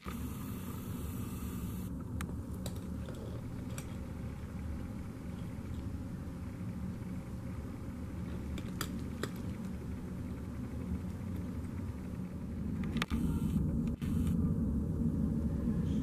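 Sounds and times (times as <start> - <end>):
low background rumble with hum: 0.0 - 16.0.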